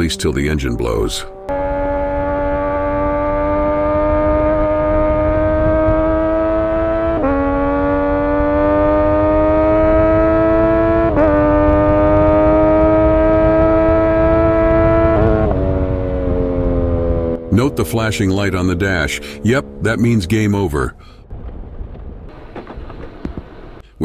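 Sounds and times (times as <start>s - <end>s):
motorcycle engine accelerating: 0.0s - 20.7s
wind noise: 1.6s - 18.4s, 21.0s - 23.8s.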